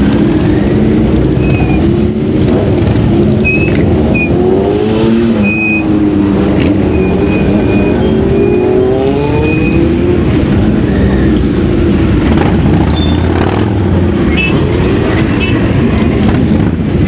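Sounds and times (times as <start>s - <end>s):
vehicle engine accelerating: 0.0s - 17.0s
vehicle engines rumbling: 0.0s - 17.0s.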